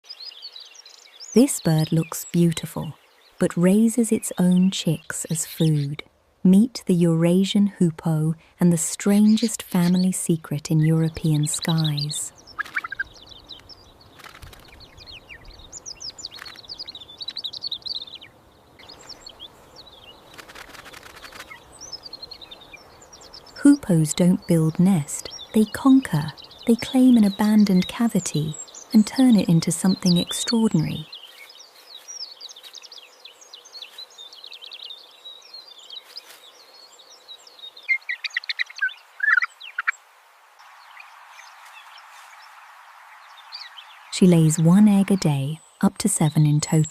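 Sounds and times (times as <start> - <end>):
birds twittering: 0.0 - 6.0, 8.9 - 46.9.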